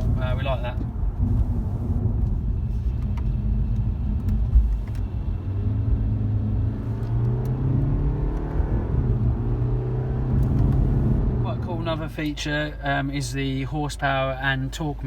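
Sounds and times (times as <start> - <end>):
diesel car engine: 0.0 - 15.0
road rumble: 0.0 - 15.0.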